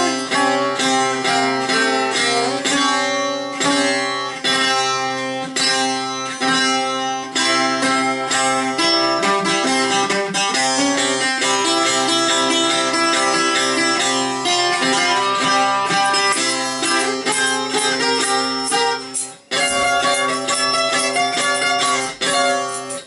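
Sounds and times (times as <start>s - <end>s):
bouzouki plucked melody: 0.0s - 23.0s.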